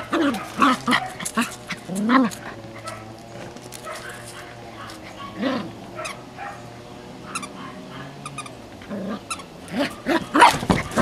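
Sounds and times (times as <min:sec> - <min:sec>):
puppies barking in play: 0:00.0 - 0:11.0.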